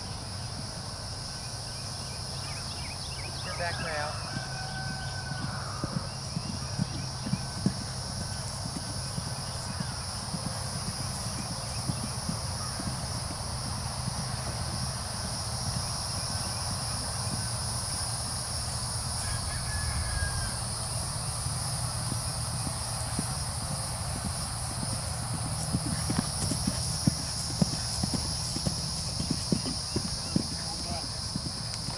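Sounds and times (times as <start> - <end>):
steady high-pitched hiss: 0.0 - 31.9
horse hoofbeats on grass: 3.1 - 31.9.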